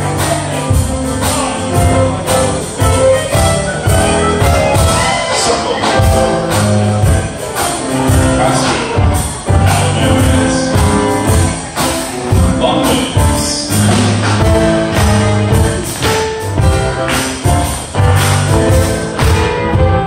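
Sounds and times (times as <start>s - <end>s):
keyboard: 0.0s - 20.0s
percussion steady beat: 0.0s - 20.0s
strong bass line: 0.0s - 20.0s.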